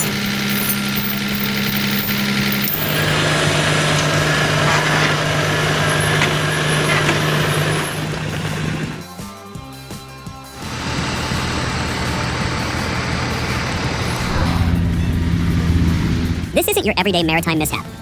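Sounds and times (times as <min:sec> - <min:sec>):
road and mechanical noise: 0:00.0 - 0:09.1, 0:10.6 - 0:18.0
truck engine under load: 0:00.0 - 0:09.1, 0:10.6 - 0:17.8.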